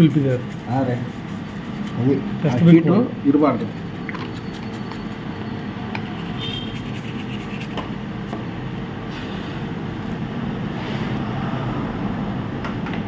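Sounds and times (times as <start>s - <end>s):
fan whirring: 0.0s - 13.0s.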